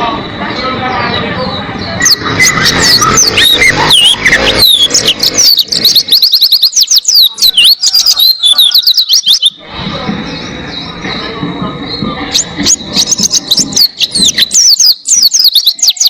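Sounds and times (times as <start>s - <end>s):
bird singing high chirps: 0.0s - 9.6s, 10.2s - 16.0s.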